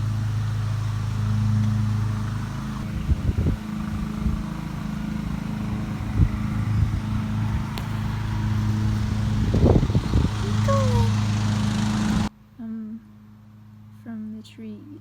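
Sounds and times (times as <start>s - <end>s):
motor humming: 0.0s - 12.3s.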